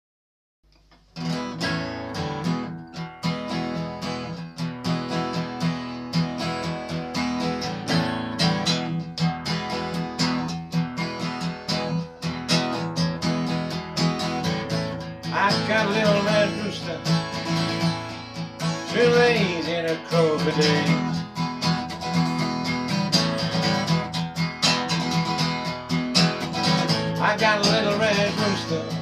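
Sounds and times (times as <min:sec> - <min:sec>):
acoustic guitar blues: 0:01.0 - 0:29.0.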